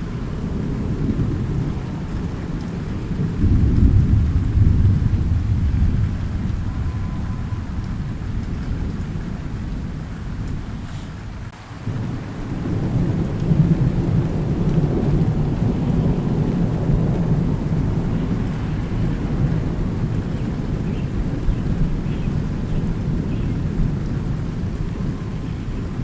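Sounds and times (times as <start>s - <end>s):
rolling thunder: 0.0s - 26.0s
steady rain: 0.0s - 26.0s.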